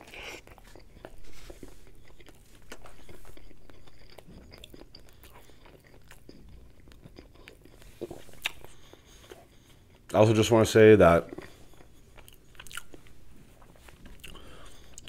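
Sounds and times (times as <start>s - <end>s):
chewing with clicks and smacks: 0.0s - 10.4s, 11.1s - 15.0s.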